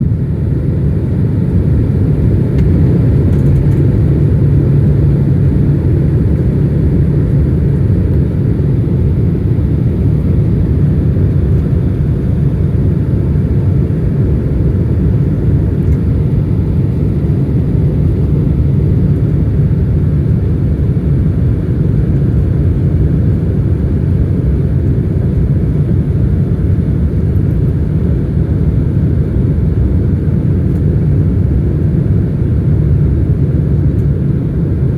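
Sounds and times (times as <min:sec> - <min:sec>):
jet engines low rumble: 0:00.0 - 0:34.9.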